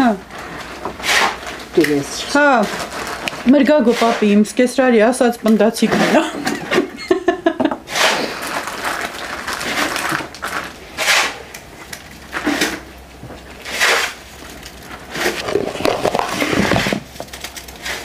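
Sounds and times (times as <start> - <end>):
crackling crunching by hand: 0.0 - 4.4, 7.9 - 18.0.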